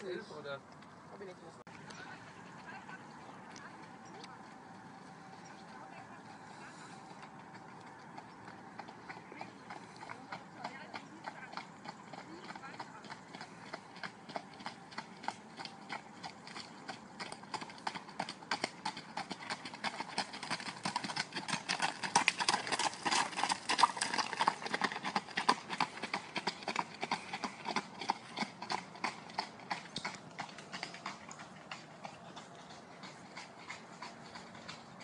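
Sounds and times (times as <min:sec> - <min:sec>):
horse hooves on gravel: 0:00.1 - 0:35.0.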